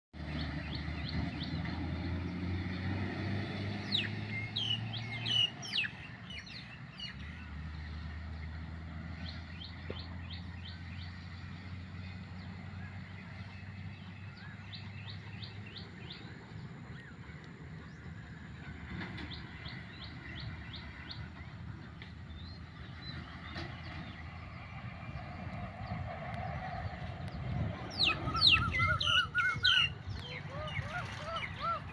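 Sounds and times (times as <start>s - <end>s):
birds chirping: 3.6s - 31.9s.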